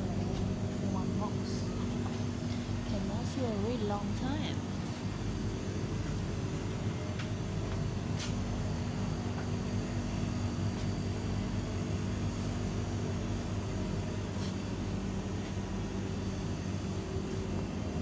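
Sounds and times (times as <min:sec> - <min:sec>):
refrigerated display cases humming: 0:00.0 - 0:18.0.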